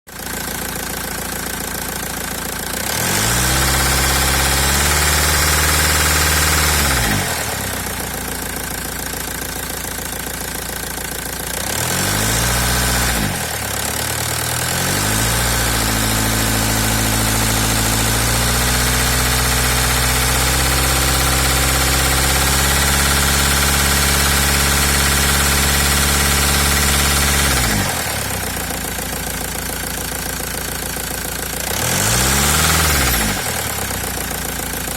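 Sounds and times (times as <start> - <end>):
diesel engine idling and revving: 0.1 - 34.9.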